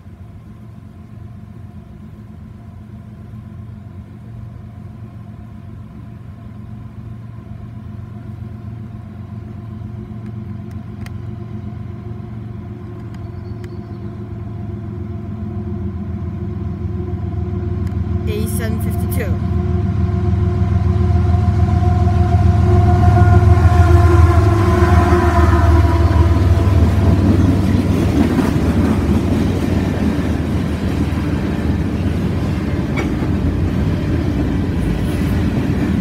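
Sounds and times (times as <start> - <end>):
diesel locomotive droning: 0.0 - 36.0.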